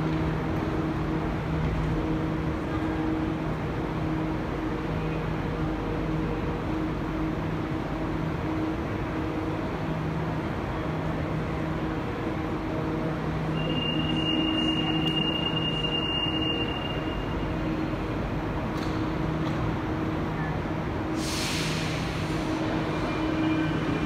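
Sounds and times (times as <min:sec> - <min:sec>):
train standing low hum: 0:00.0 - 0:24.0.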